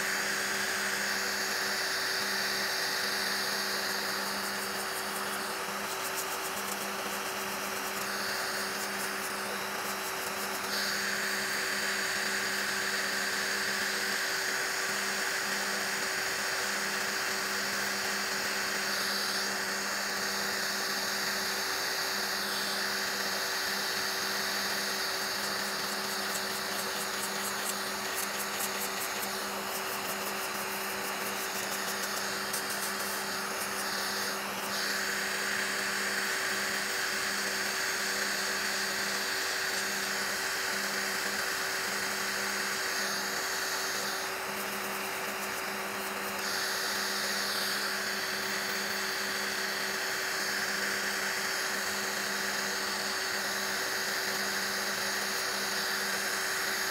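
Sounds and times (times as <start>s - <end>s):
electric nail drill whirring: 0.0s - 56.9s.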